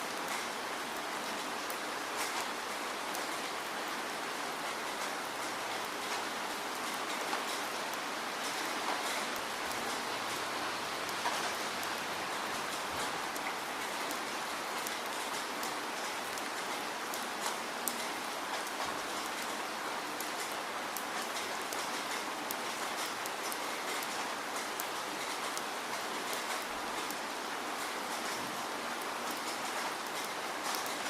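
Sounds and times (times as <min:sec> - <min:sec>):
rain hissing: 0:00.0 - 0:31.0
raindrops ticking on hard surface: 0:00.1 - 0:31.0.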